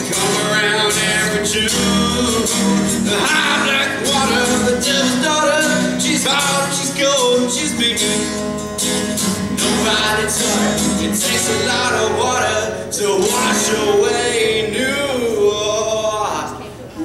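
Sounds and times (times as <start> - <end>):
man singing: 0.0 - 8.6, 9.4 - 16.7
strummed acoustic guitar: 0.0 - 16.8.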